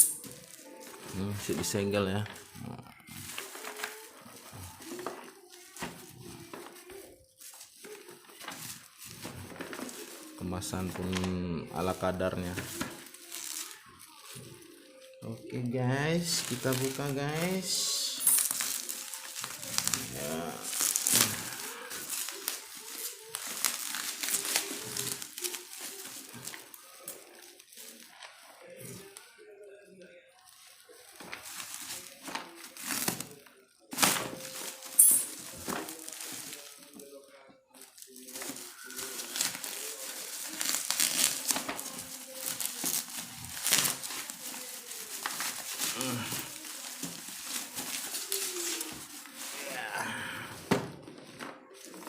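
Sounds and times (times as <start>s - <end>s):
plastic packaging crinkling: 0.0s - 52.0s.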